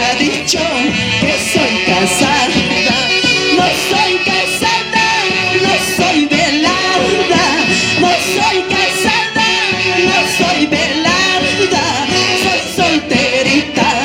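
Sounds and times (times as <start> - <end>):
live instrumental orchestra music: 0.0 - 14.0.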